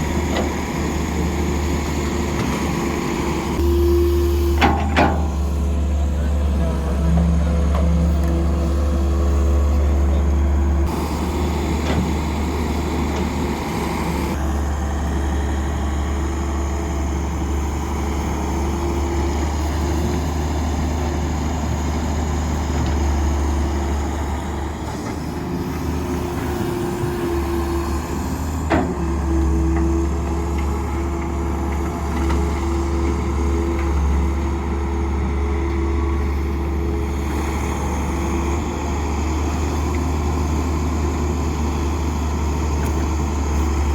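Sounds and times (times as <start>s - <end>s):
heavy machinery engines rumbling: 0.0s - 43.9s.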